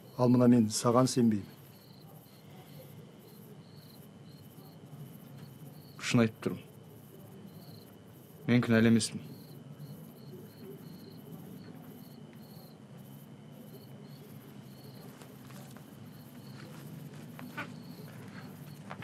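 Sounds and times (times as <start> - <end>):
crickets chirping: 0.0 - 19.0
thin steady high tone: 0.0 - 19.0.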